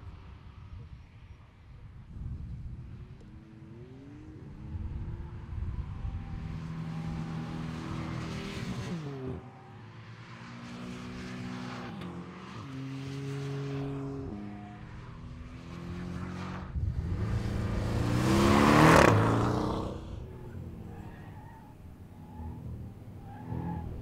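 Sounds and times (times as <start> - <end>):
sports car engines accelerating: 2.8 - 24.0.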